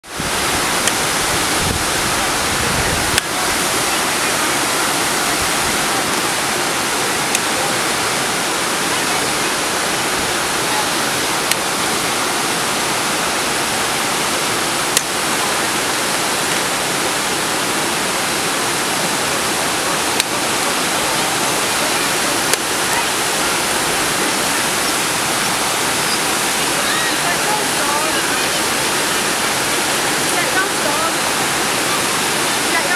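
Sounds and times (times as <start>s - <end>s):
waterfall rushing over rocks: 0.0s - 32.9s.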